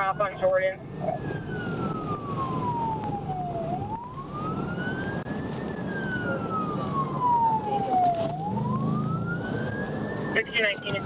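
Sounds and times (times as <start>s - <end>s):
police siren wailing: 0.0s - 11.0s
road and engine noise: 0.0s - 11.0s.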